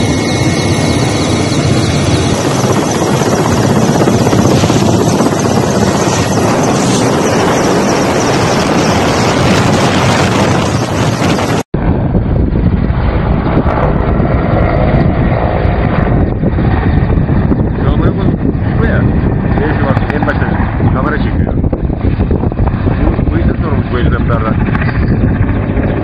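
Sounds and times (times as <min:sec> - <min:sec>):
helicopter engine and rotor noise: 0:00.0 - 0:26.0.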